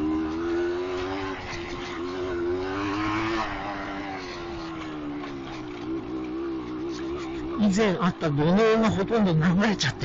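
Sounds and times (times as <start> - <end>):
two-stroke motorcycle engine revving: 0.0 - 10.0.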